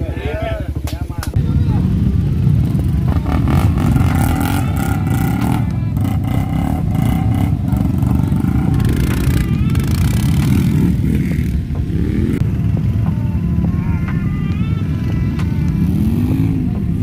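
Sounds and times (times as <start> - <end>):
atv engines rumbling: 0.0 - 17.0.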